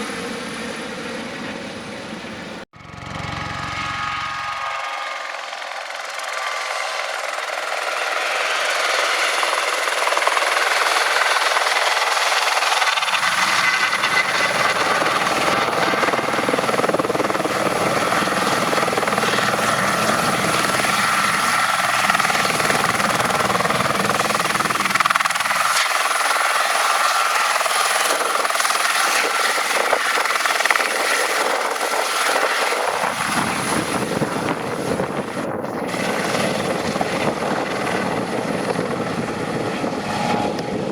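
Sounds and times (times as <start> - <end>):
helicopter rotor noise: 0.0 - 40.9
helicopter turbine engine whine: 0.0 - 40.9.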